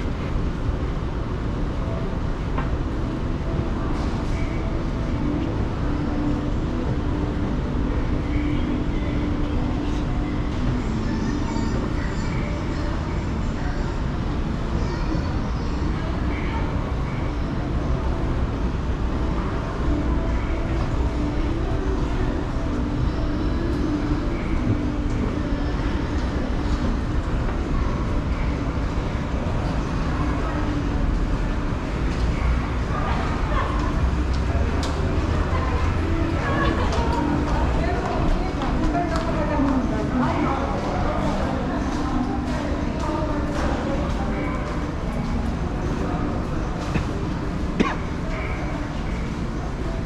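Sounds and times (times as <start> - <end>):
murmur of distant voices: 0.0 - 50.0.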